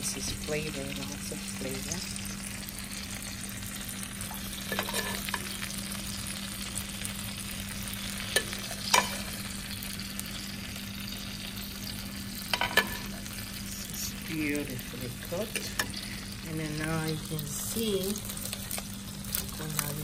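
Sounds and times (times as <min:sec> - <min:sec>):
butter sizzling in a pan: 0:00.0 - 0:20.0.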